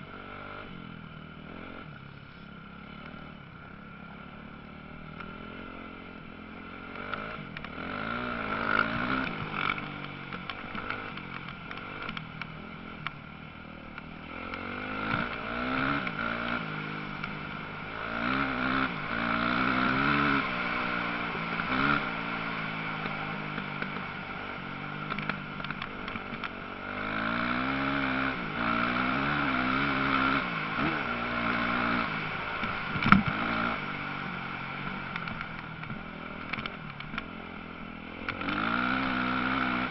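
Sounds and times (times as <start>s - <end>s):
motocross bike engines revving: 5.1s - 13.0s, 13.8s - 37.4s, 38.0s - 39.9s.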